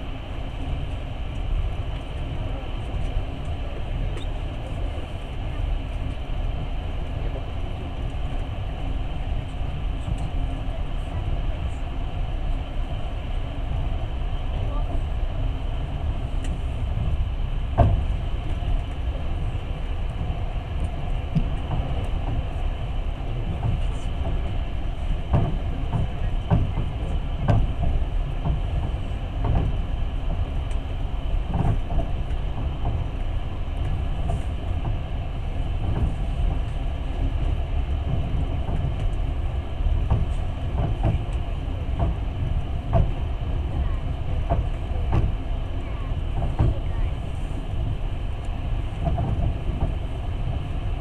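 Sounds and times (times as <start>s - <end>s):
train rumble inside carriage: 0.0s - 51.0s.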